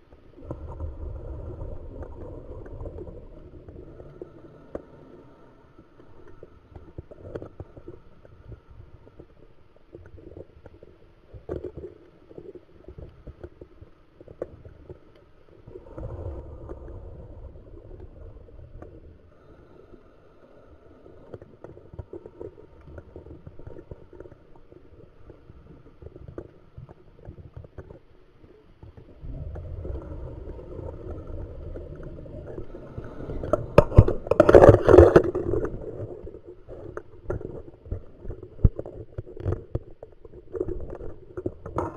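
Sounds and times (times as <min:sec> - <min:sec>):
underwater bubbles gurgling: 0:00.0 - 0:41.9
faint clicks: 0:01.9 - 0:41.9.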